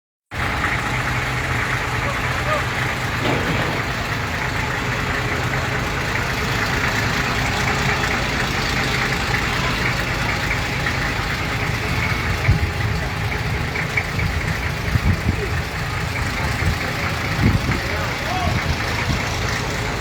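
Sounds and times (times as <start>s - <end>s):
engine idling: 0.3s - 20.0s.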